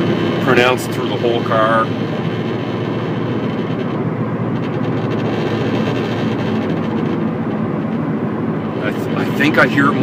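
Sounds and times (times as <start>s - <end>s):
deep pulsing drivetrain buzz: 0.0s - 10.0s
road noise: 0.0s - 10.0s.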